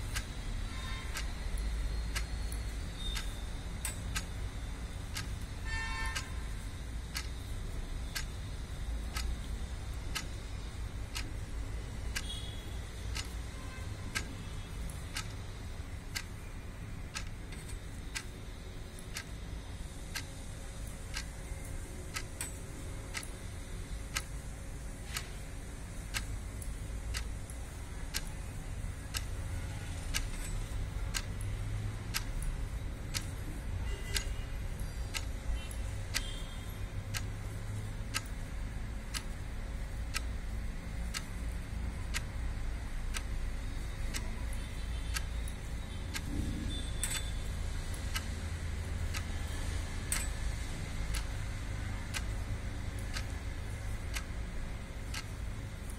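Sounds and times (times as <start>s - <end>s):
steady regular ticking: 0.0s - 55.9s.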